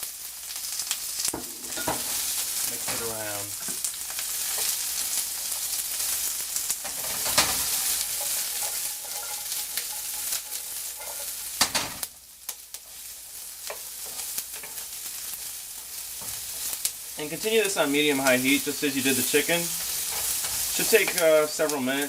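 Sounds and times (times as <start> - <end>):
vegetables sizzling in frying pan: 0.0 - 22.0.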